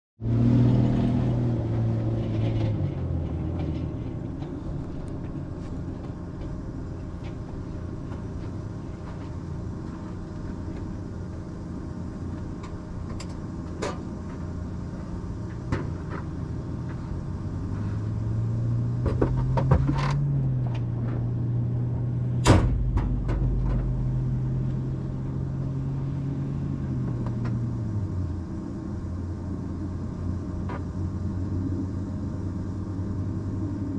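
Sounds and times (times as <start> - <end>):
engine running: 0.2 - 33.9.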